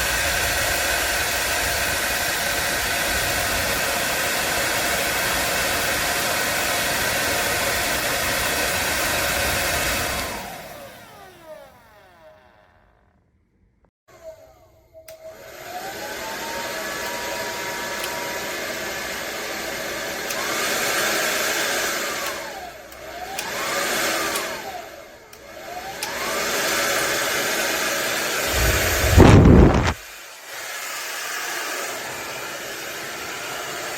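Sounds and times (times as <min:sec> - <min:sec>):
hair dryer blowing: 0:00.0 - 0:13.1, 0:14.1 - 0:33.9.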